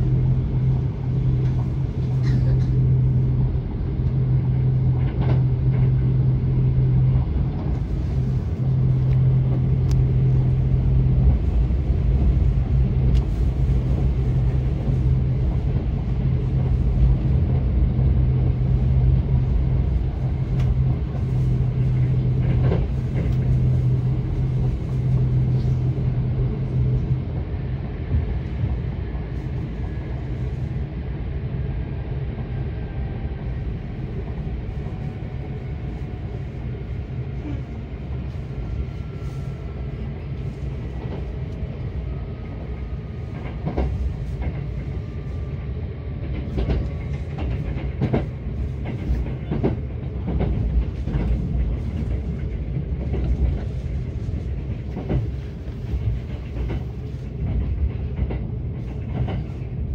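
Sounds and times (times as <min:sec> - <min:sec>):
train running rumble: 0:00.0 - 0:59.9.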